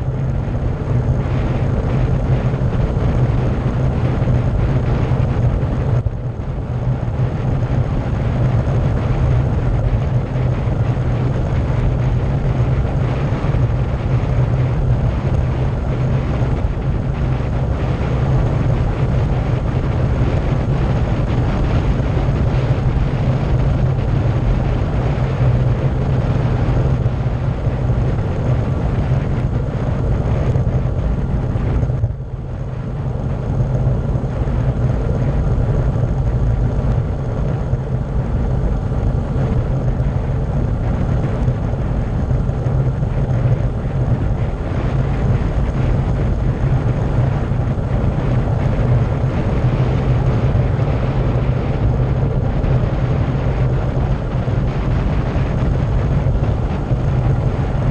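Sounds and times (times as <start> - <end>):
wind rushing over microphone: 0.0 - 57.9.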